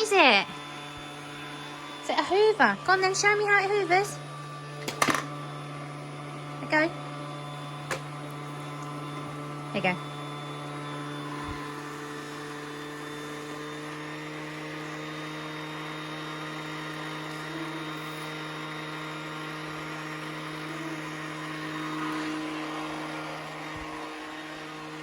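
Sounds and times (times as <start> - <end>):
toy vacuum cleaner motor humming: 0.0 - 25.0.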